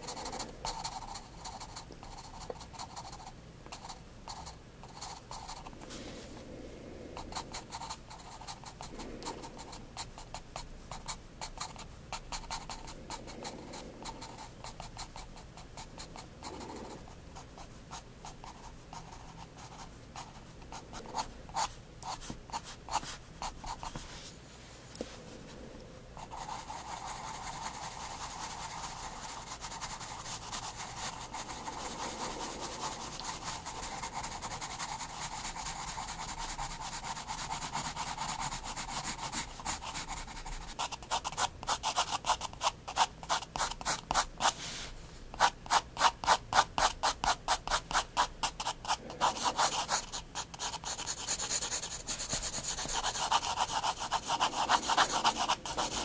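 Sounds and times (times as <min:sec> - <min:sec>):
pencil scratching on paper: 0:00.0 - 0:05.7, 0:07.2 - 0:24.2, 0:26.2 - 0:44.8, 0:45.4 - 0:56.0.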